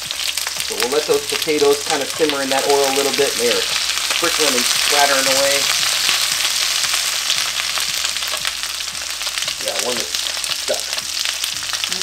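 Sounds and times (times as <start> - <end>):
potatoes sizzling in oil: 0.0 - 12.0
spatula turning potatoes in pan: 0.0 - 12.0.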